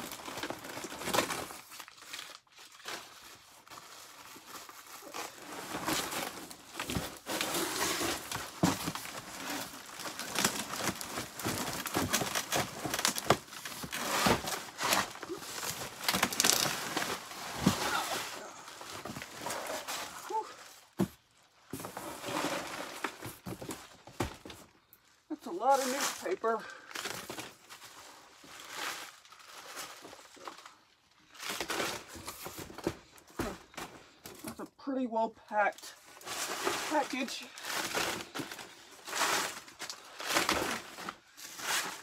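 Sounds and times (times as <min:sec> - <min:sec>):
paper crumpling and crinkling: 0:00.0 - 0:21.0, 0:25.3 - 0:34.6, 0:35.8 - 0:42.0.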